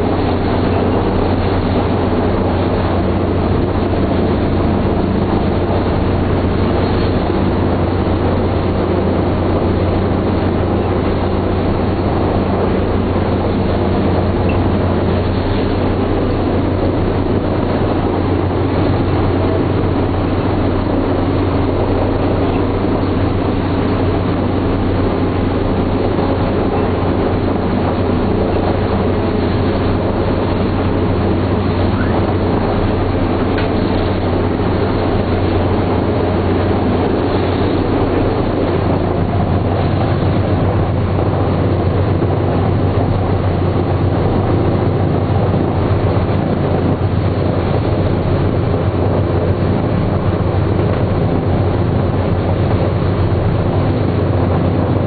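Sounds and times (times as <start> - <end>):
radial aircraft engines droning: 0.0 - 55.0.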